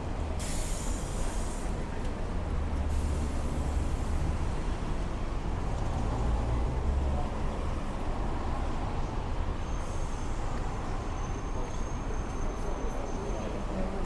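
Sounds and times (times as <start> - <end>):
vehicle engines rumbling: 0.0 - 14.0
passing vehicles hiss: 0.1 - 14.0.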